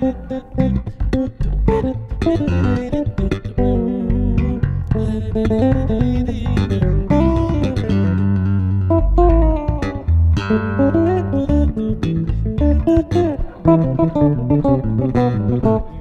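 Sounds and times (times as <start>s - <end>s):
bass holding low notes: 0.0s - 16.0s
bass playing higher melody: 0.0s - 16.0s.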